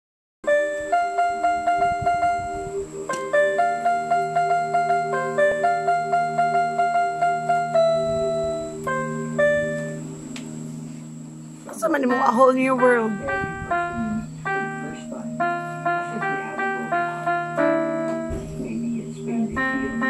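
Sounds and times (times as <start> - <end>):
electronic keyboard piano melody: 0.4 - 20.0.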